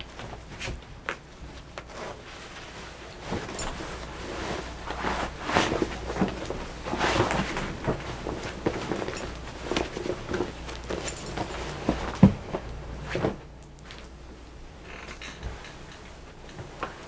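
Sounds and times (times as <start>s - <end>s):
bedcovers rustling: 0.0s - 17.0s
clothes rustling: 0.0s - 17.0s.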